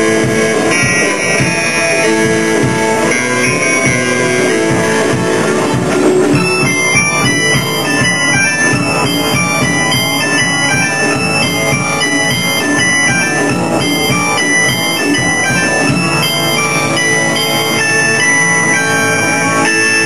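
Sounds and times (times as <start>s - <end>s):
band playing sustained notes: 0.0s - 20.0s
steady drum beat: 0.0s - 20.0s.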